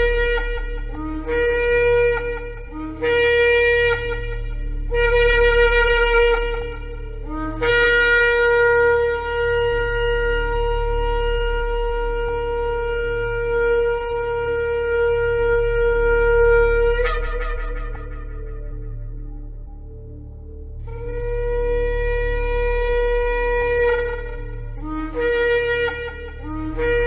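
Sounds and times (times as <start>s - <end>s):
shofar blasts: 0.0s - 27.0s.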